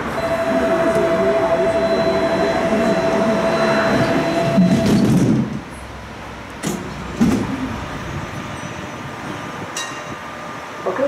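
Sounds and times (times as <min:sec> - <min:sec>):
tram motor whine and rumble: 0:00.0 - 0:11.0
tram rolling on rails: 0:00.0 - 0:11.0.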